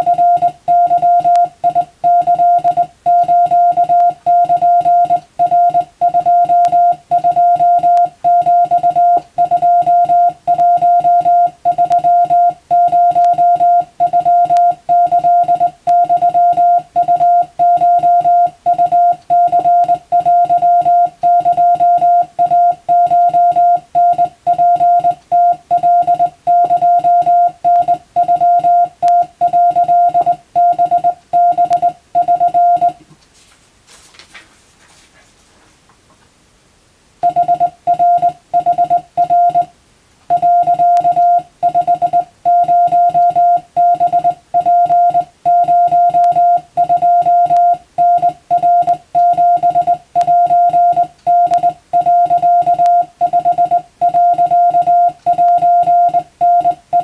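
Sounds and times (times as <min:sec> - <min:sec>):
morse code beeps: 0:00.0 - 0:33.0, 0:37.2 - 0:39.7, 0:40.3 - 0:57.0.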